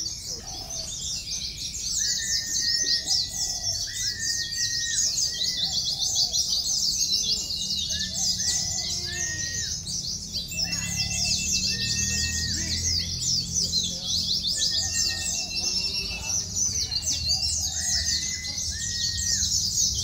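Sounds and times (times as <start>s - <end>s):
caged birds twittering: 0.0s - 20.0s
whistled bird notes: 0.0s - 20.0s.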